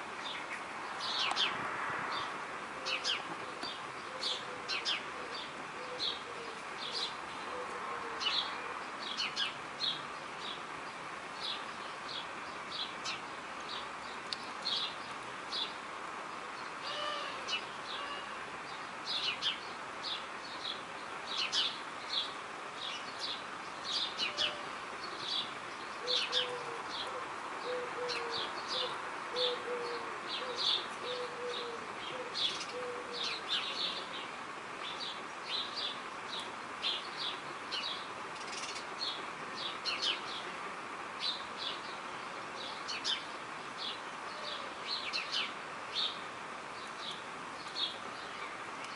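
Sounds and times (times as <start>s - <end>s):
background hiss: 0.0s - 48.9s
birds chirping: 0.1s - 48.9s.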